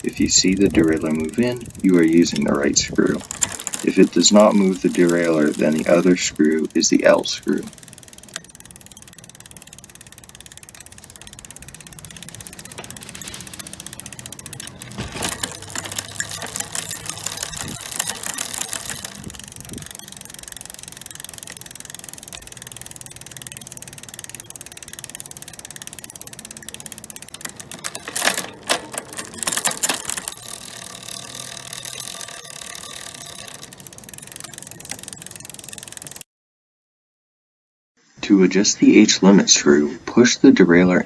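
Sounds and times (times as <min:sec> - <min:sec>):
bicycle drivetrain rattling: 0:00.0 - 0:36.2
bicycle chain ticking: 0:00.0 - 0:36.3.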